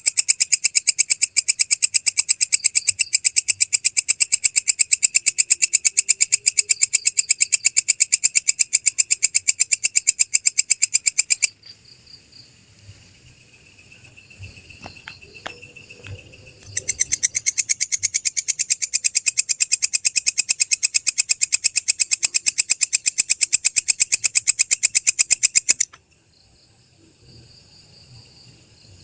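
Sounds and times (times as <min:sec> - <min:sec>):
grasshopper chirping: 0:00.0 - 0:29.0.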